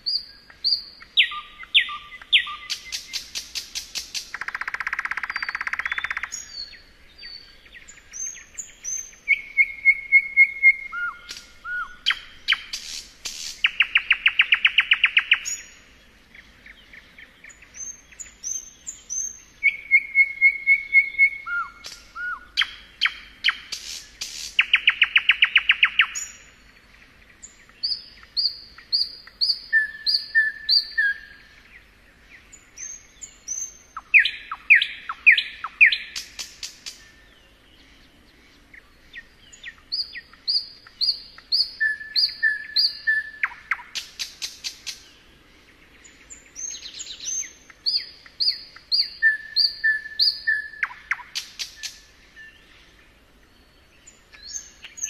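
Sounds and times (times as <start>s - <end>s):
nightingale singing: 0.0s - 55.0s.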